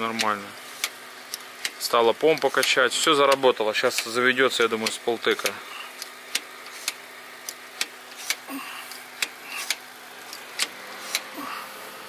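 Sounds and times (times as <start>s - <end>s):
faint steady hum: 0.0s - 12.0s
fuel priming pump clicking: 0.1s - 4.2s, 4.8s - 11.4s.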